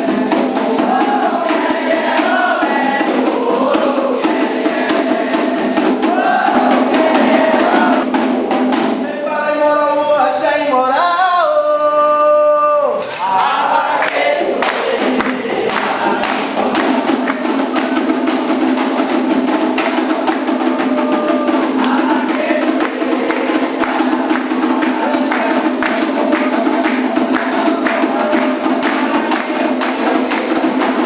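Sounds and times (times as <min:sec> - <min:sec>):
dense fast percussion: 0:00.0 - 0:10.1, 0:13.0 - 0:31.0
group singing: 0:00.0 - 0:31.0
voices holding sliding notes: 0:00.0 - 0:31.0.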